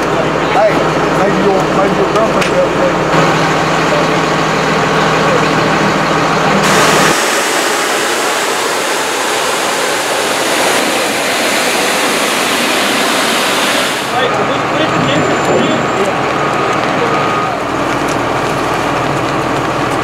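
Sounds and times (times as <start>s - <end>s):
loud rushing noise: 0.0s - 17.8s
engine idling: 0.0s - 20.0s.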